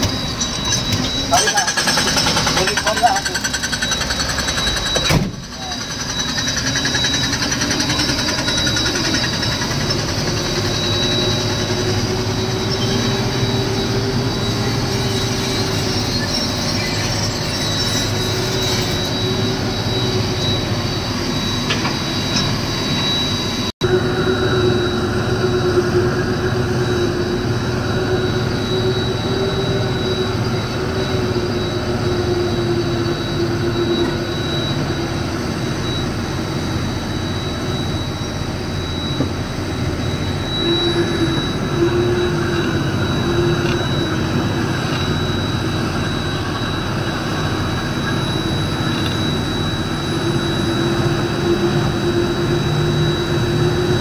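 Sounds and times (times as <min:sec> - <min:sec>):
diesel machinery running: 0:00.0 - 0:54.0
wavering machine whine: 0:00.0 - 0:54.0.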